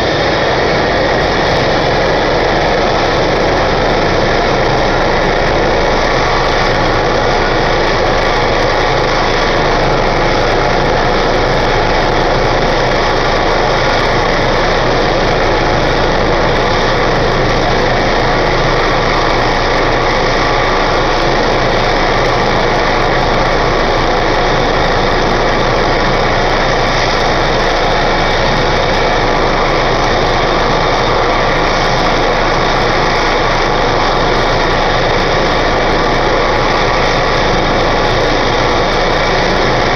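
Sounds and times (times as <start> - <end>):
helicopter turbine and rotor running: 0.0 - 39.9.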